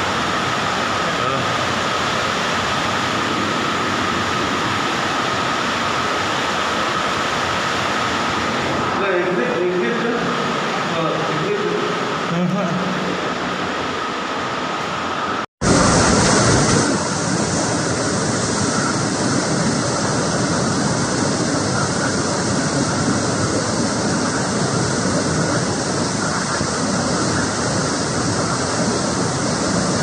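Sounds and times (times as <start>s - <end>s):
storm wind rushing: 0.0s - 30.0s.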